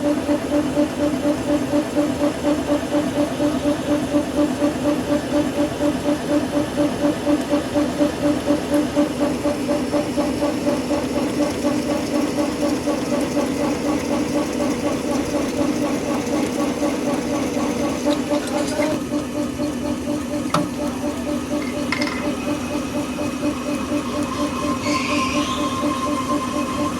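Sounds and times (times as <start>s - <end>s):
factory machinery humming: 0.0s - 26.9s.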